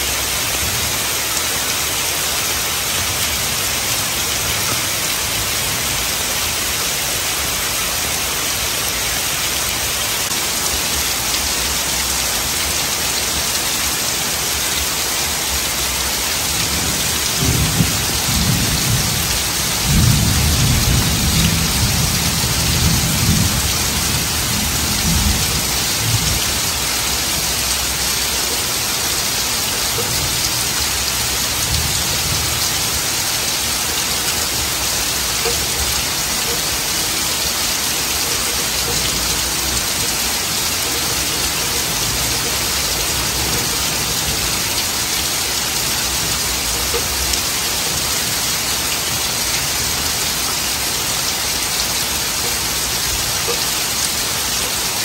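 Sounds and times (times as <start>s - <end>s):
heavy rain falling on trees: 0.0s - 55.0s.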